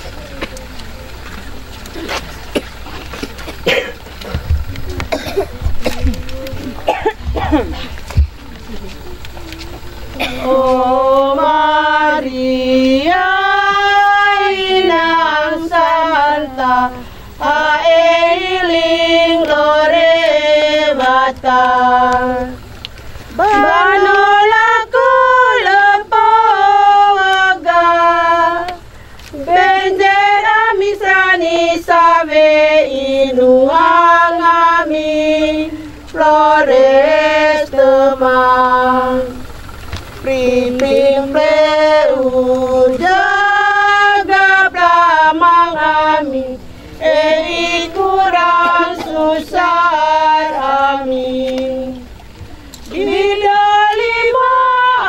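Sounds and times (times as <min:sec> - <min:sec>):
women singing a hymn: 0:00.0 - 0:55.0.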